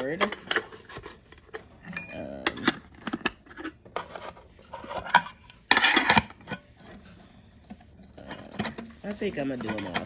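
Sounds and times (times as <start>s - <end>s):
metal camping pots clinking: 0.0s - 10.0s.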